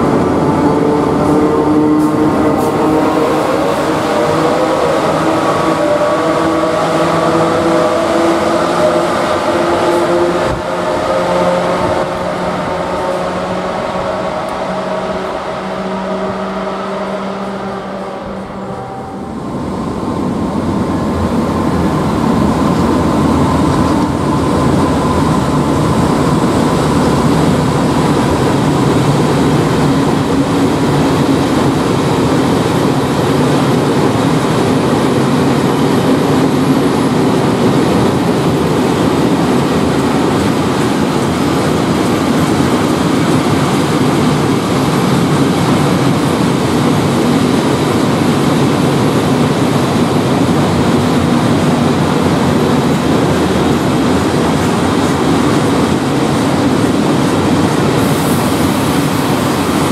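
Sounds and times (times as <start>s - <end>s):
freight train rolling on rails: 0.0s - 59.9s.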